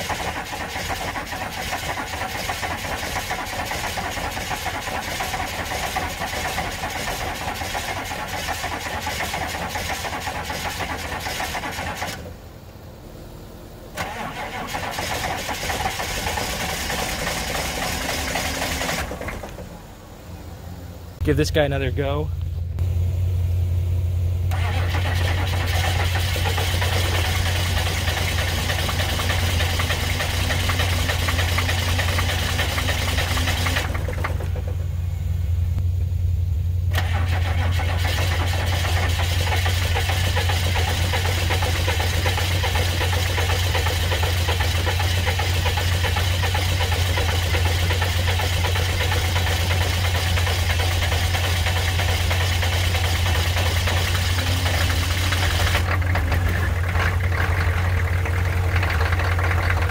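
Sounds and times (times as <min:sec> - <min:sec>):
engine running rough with knocking: 0:00.0 - 0:12.3, 0:14.0 - 0:19.9, 0:24.5 - 0:36.2, 0:36.8 - 0:59.9
diesel engine cranking: 0:00.0 - 0:59.9
truck engine idling hum: 0:00.0 - 0:59.9.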